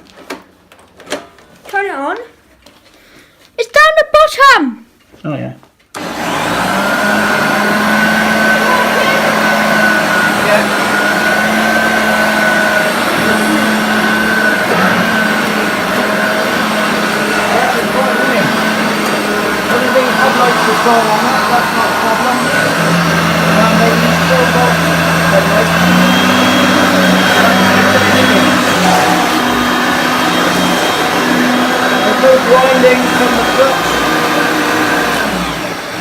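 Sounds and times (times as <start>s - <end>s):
vacuum cleaner running: 5.9s - 36.0s.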